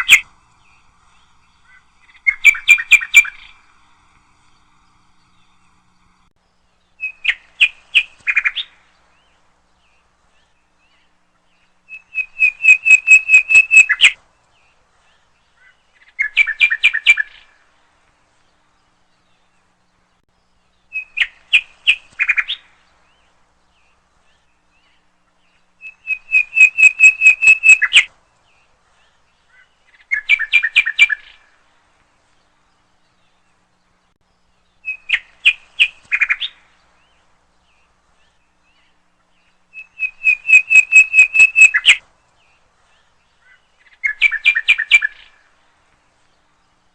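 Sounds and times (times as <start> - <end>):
nightingale singing: 0.0 - 46.9.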